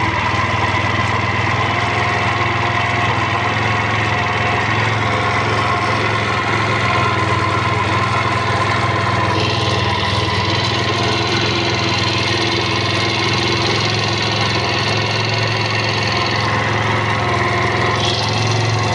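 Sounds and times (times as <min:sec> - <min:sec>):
extraneous scooter noise: 0:00.0 - 0:18.9
scooter engine idling: 0:00.0 - 0:18.9.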